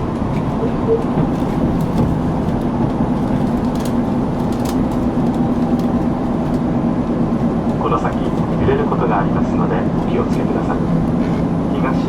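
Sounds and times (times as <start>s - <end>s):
railcar engine drone: 0.0s - 12.0s.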